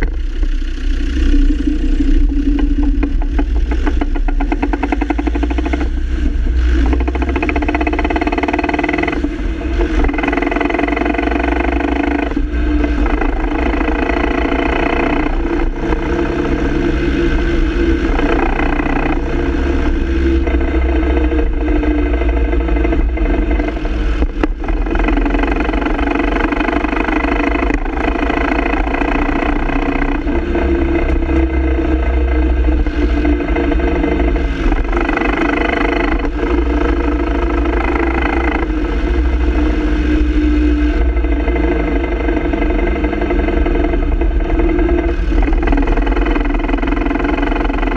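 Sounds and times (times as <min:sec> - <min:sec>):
diesel engine running: 0:00.0 - 0:47.9
drivetrain clatter: 0:00.0 - 0:47.9.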